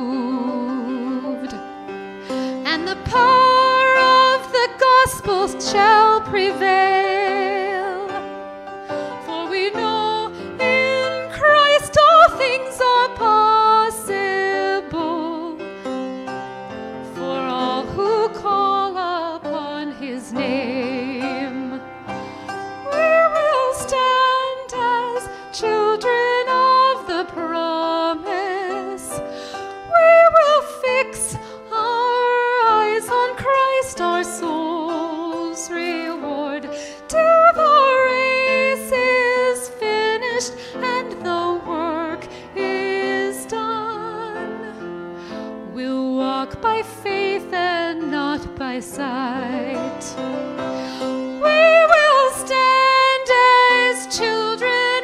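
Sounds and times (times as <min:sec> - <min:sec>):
woman singing a hymn: 0:00.0 - 0:08.3, 0:09.0 - 0:15.6, 0:17.1 - 0:21.9, 0:22.8 - 0:44.9, 0:45.6 - 0:50.4, 0:51.3 - 0:55.0
grand piano: 0:00.0 - 0:55.0.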